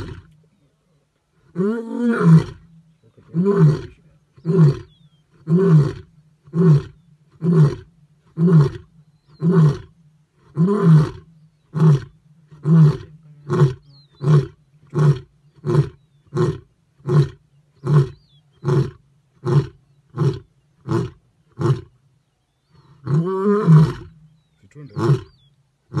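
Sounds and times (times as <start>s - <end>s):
lion roaring: 1.5s - 21.9s, 22.8s - 24.2s, 24.9s - 26.0s.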